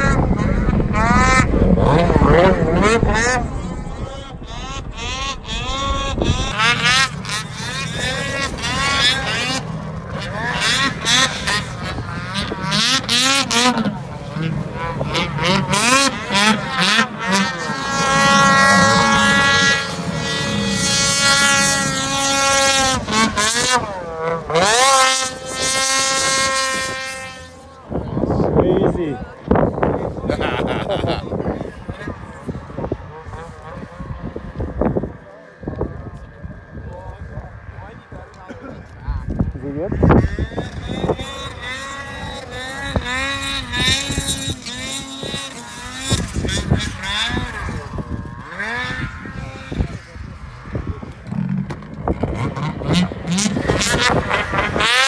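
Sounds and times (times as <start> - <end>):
snowmobile engine revving high: 0.0 - 55.0.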